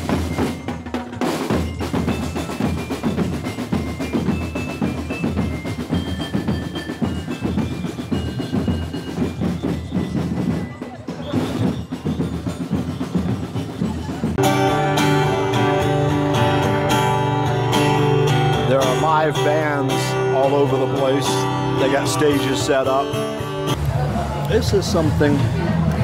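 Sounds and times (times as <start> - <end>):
drums beating fast rhythm: 0.0 - 25.9.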